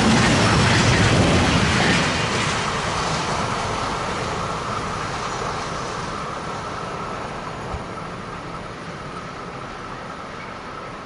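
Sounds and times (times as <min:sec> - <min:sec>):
freight train wagons rolling: 0:00.0 - 0:11.0.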